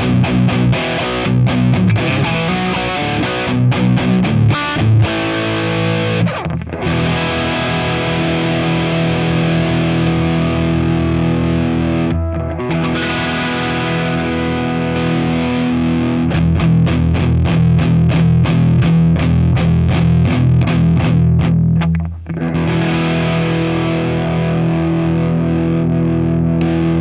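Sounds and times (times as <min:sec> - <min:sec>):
electric guitar playing: 0:00.0 - 0:27.0.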